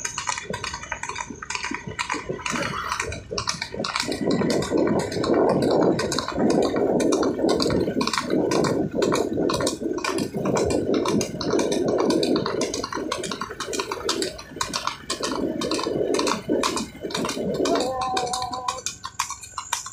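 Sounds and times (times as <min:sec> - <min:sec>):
hooves clattering on asphalt: 0:00.0 - 0:19.9
steady rushing noise: 0:00.0 - 0:19.9.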